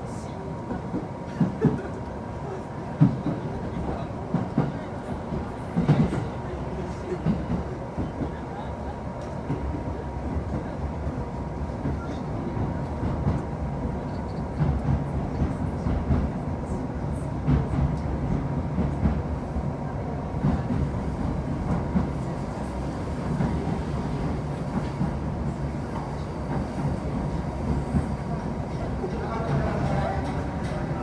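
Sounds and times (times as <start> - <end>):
train rumbling on track: 0.0 - 31.0.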